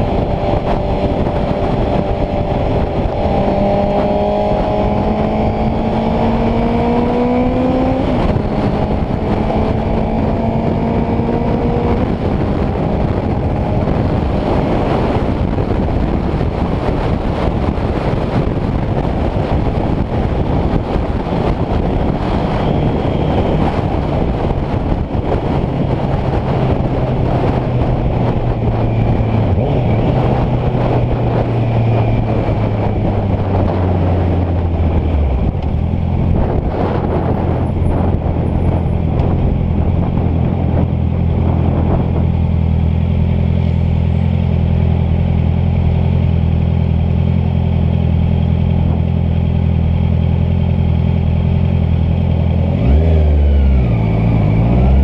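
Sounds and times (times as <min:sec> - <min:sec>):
motorcycle engine running: 0:00.0 - 0:55.0
rushing wind noise: 0:00.0 - 0:55.0.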